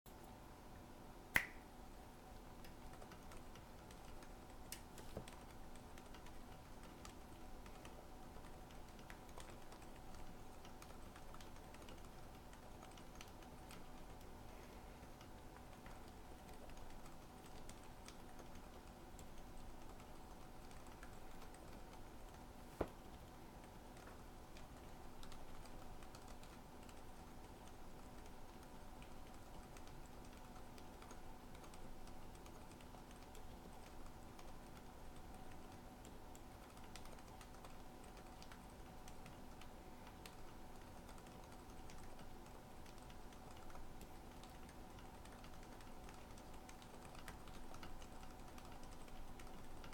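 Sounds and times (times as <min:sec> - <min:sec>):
faint steady hum: 0:00.1 - 0:49.9
quiet keyboard keypresses: 0:02.4 - 0:49.9.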